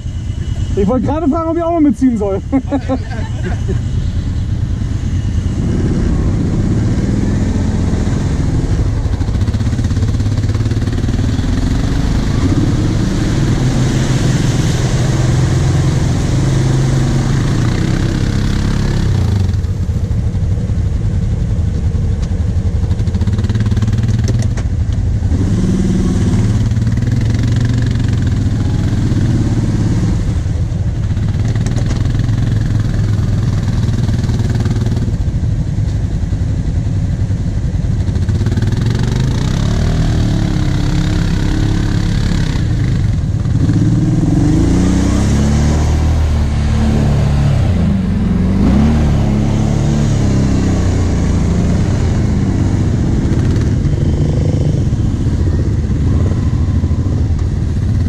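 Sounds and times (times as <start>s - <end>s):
quad bike engine revving: 0.0s - 21.2s, 21.8s - 35.4s, 37.9s - 58.0s.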